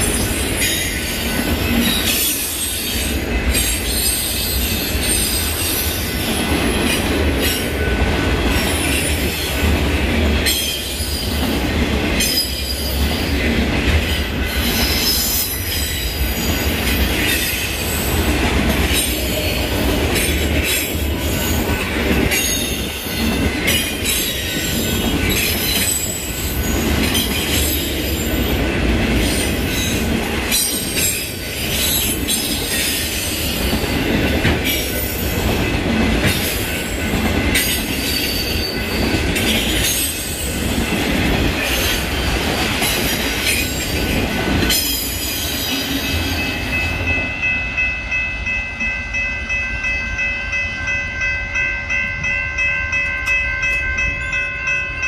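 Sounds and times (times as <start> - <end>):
crossing bell ringing: 0.0 - 55.0
freight train rumbling past: 0.0 - 55.0.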